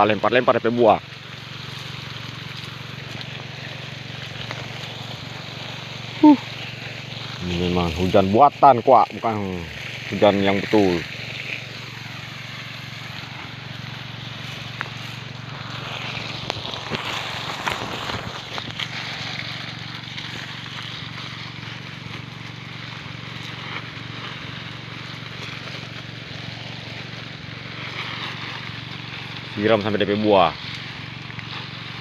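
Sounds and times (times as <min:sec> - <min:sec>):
low engine hum: 0:00.0 - 0:32.0
water spray hissing on leaves: 0:00.0 - 0:32.0.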